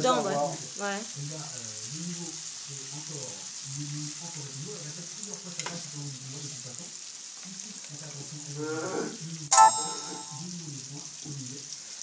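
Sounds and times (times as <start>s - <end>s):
food sizzling on a griddle: 0.0s - 9.5s, 10.3s - 12.0s.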